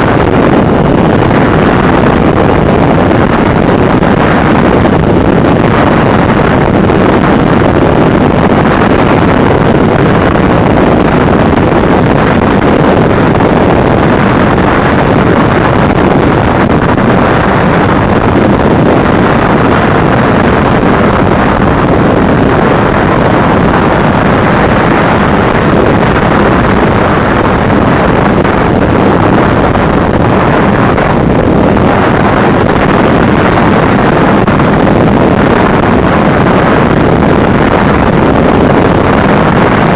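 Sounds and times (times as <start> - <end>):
drone motors and propellers rushing: 0.0 - 39.9
wind buffeting microphone: 0.0 - 39.9.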